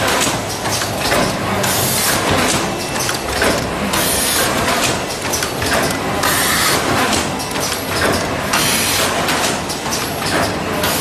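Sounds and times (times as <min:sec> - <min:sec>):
sewing machine clatter and hiss: 0:00.0 - 0:11.0.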